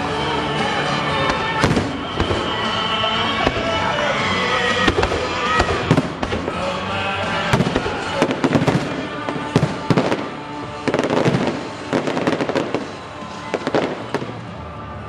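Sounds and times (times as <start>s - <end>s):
fireworks bangs: 0.0s - 14.8s
fireworks crackles: 0.0s - 15.0s.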